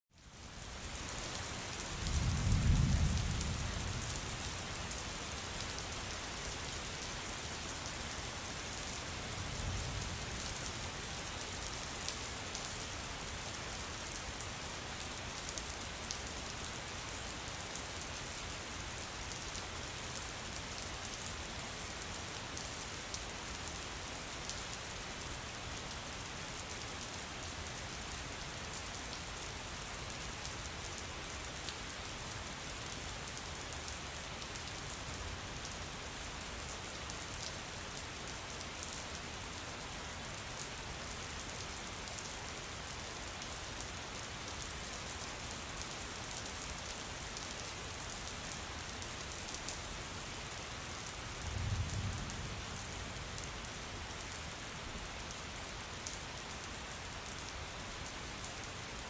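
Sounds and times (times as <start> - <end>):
steady rain falling: 0.1 - 59.0.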